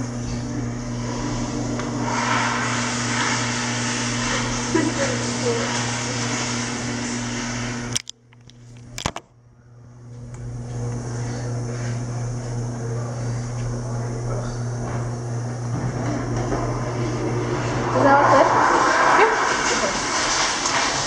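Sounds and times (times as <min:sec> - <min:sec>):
mechanical whirring hum: 0:00.0 - 0:21.0.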